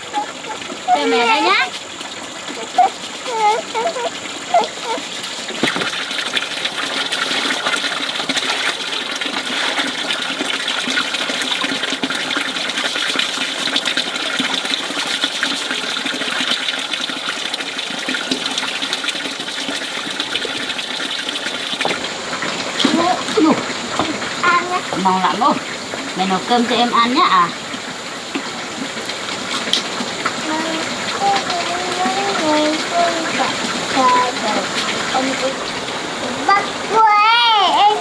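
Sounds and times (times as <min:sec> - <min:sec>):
water gushing: 0:00.0 - 0:38.0.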